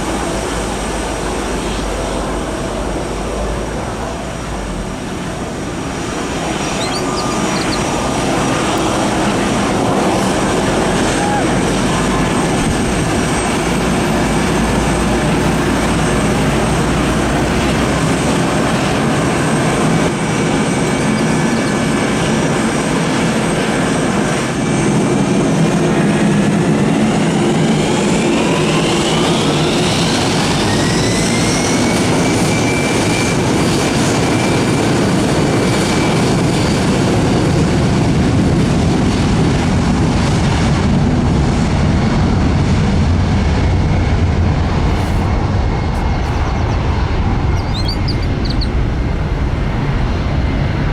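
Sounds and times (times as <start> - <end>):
jet engines spooling up: 0.0 - 50.9.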